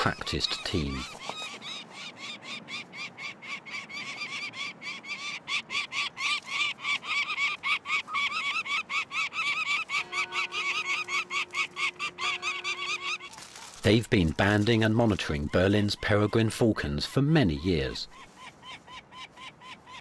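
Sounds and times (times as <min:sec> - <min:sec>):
falcon chick calling: 0:00.0 - 0:20.0.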